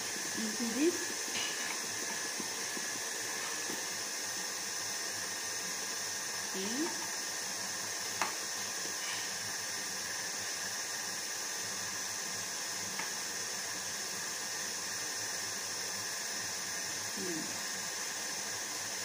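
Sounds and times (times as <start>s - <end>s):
stand mixer running: 0.0s - 19.0s.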